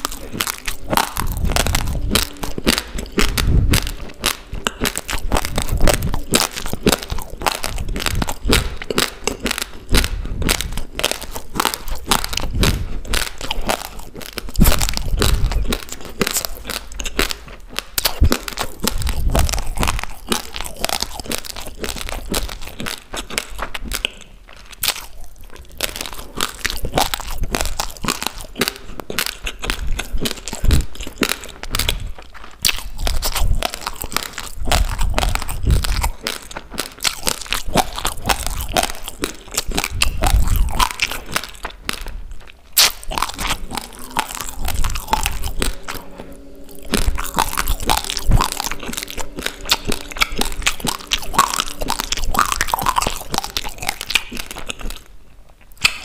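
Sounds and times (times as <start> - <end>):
chewing crunchy raw rice: 0.0 - 56.0.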